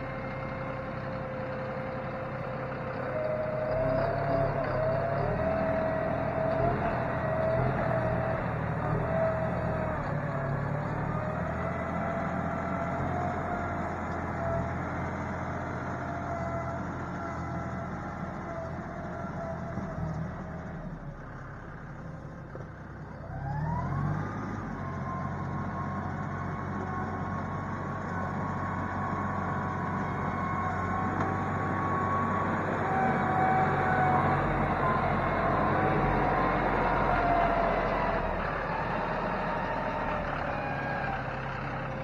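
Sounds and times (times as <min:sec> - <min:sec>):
tractor diesel engine revving: 0:00.0 - 0:42.0.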